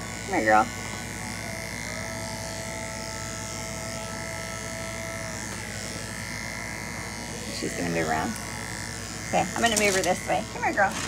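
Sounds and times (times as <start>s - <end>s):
electric clipper buzzing: 0.0s - 11.0s.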